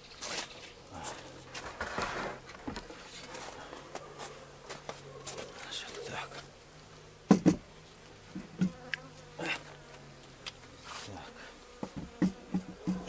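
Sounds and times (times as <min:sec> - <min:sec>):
honeybees buzzing: 0:00.7 - 0:13.0.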